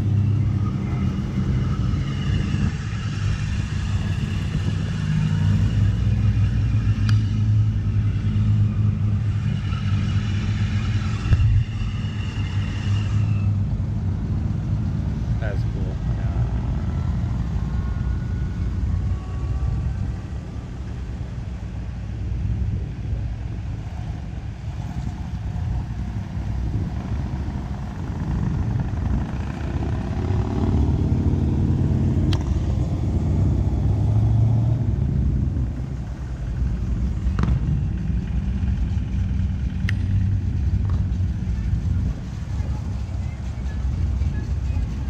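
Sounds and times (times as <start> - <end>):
cars and trucks driving past: 0.0 - 45.0.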